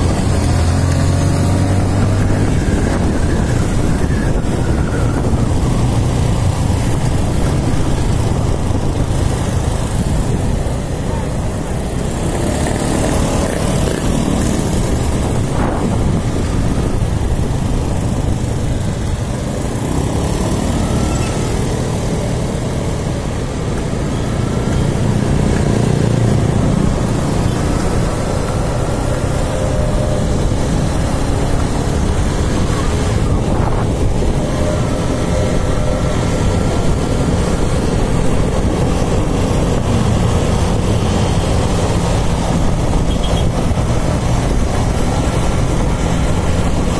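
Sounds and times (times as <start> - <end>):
road and wind noise: 0.0 - 46.9
motorcycle engine running: 5.8 - 46.9.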